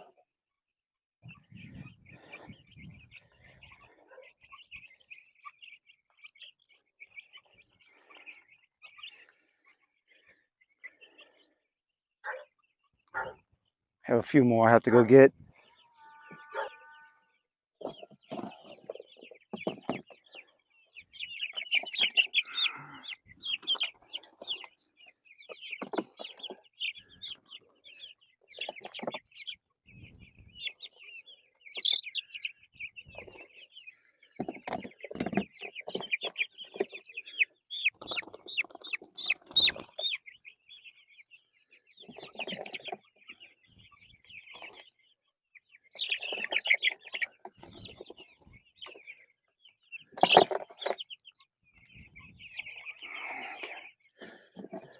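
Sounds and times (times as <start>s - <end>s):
chicks peeping and chirping: 0.0s - 0.3s, 1.2s - 54.9s.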